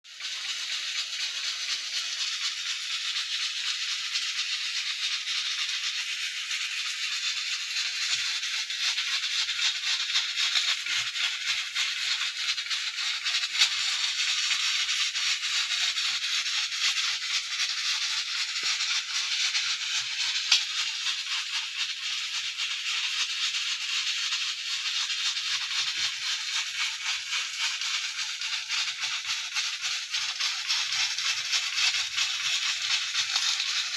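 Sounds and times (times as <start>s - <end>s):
pressure cooker steam hiss: 0.0s - 33.9s.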